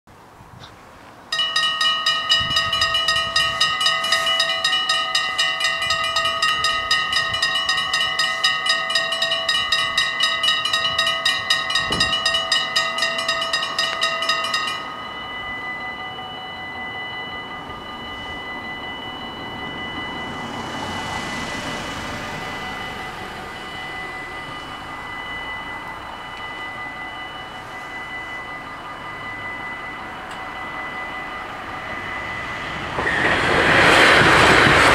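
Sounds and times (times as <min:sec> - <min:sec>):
level crossing warning bells ringing: 0:01.3 - 0:34.9.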